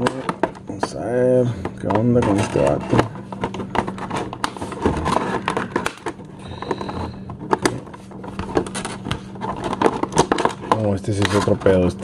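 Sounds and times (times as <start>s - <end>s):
plastic tray crackling: 1.8s - 12.0s.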